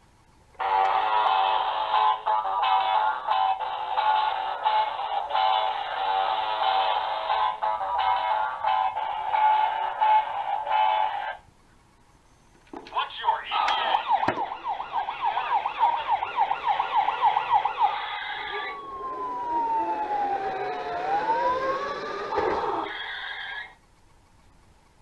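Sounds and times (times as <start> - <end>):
toy ambulance siren: 0.6 - 11.4, 13.4 - 23.8.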